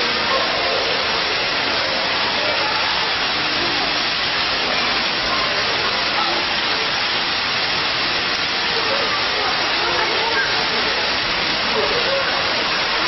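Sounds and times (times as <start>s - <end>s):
water streams splashing into pool: 0.0s - 13.0s.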